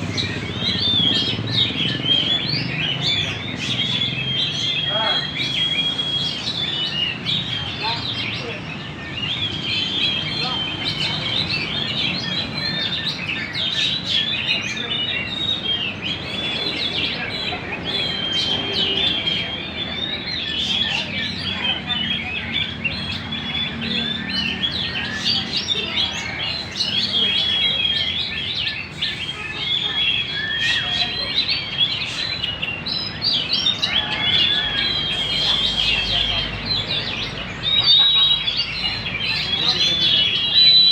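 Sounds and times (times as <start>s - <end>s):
songbird singing chirps and trills: 0.0s - 40.9s.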